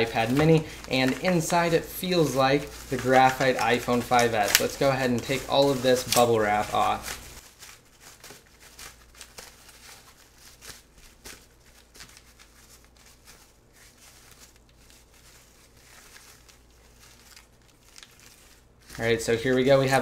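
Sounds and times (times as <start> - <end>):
bubble wrap crinkling: 0.0 - 20.0.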